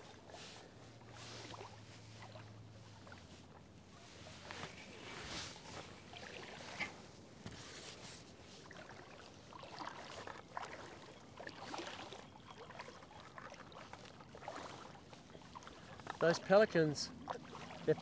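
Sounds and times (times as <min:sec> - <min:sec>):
water sloshing around wading legs: 0:00.0 - 0:18.0.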